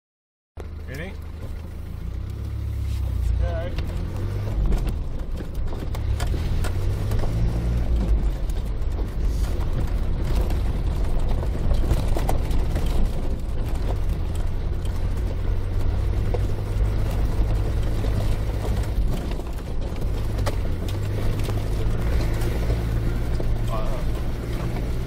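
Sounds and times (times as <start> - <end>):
car engine droning: 0.6 - 25.0
knocks and rattles from bumpy ground: 3.8 - 25.0.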